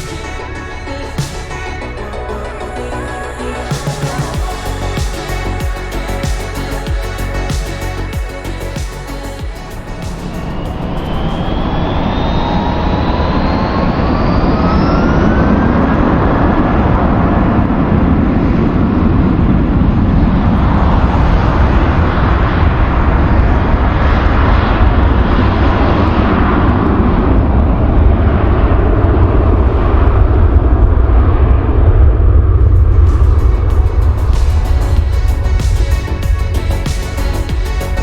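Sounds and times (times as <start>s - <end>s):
jet engine whine and rumble: 0.0s - 38.0s.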